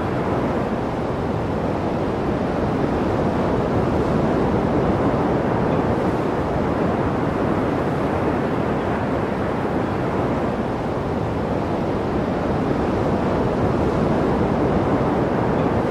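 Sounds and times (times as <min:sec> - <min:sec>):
wind noise on microphone: 0:00.0 - 0:15.9.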